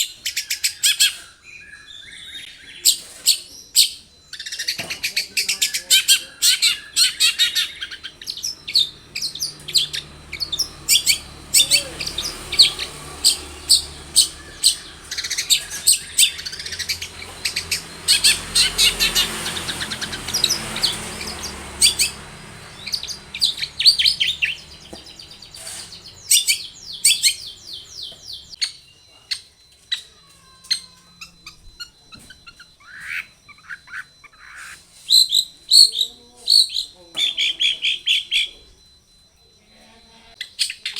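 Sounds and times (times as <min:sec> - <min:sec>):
bird chattering song: 0:00.0 - 0:38.8, 0:40.3 - 0:40.9.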